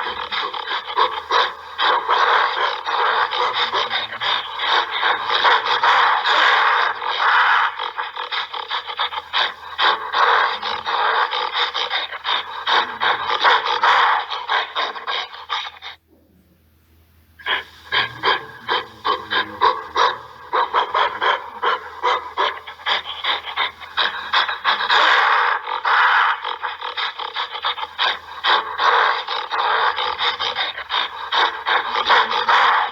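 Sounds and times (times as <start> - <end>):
gorilla raspy vocalizing: 0.0 - 16.0, 17.4 - 32.9.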